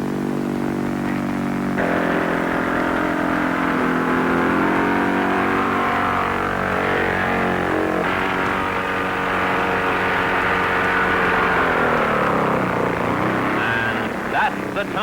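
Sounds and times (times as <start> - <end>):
propeller aeroplane engine drone: 0.0 - 15.0.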